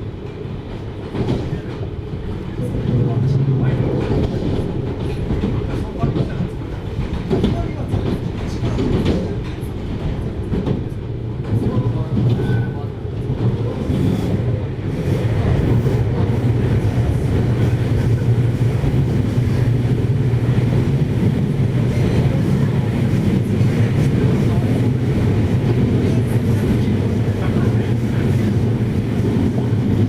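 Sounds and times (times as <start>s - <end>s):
train rumbling at speed: 0.0s - 30.0s.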